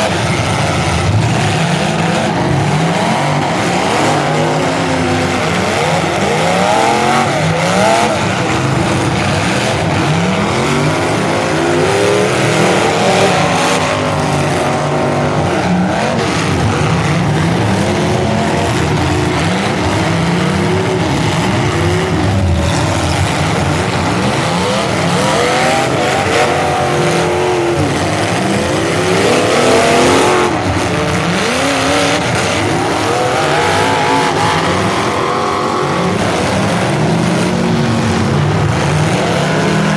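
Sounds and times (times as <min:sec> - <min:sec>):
car engines revving hard: 0:00.0 - 0:39.9
cars ramming each other: 0:00.0 - 0:39.9.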